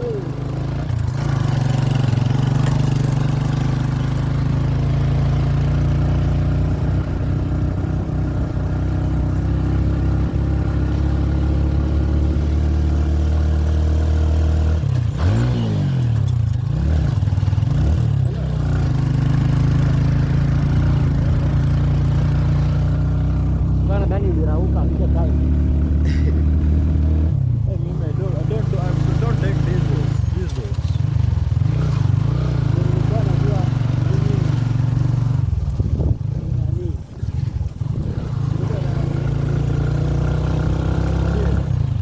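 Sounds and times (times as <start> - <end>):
vehicle engine revving: 0.0 - 42.0.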